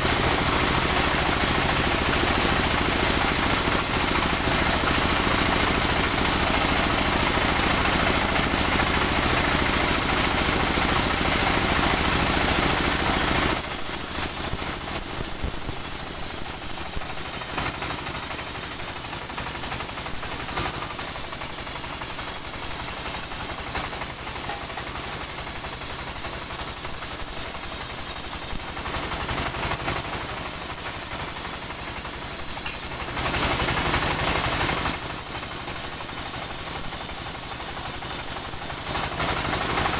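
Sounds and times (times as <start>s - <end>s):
sawmill engine and band saw: 0.0s - 39.9s.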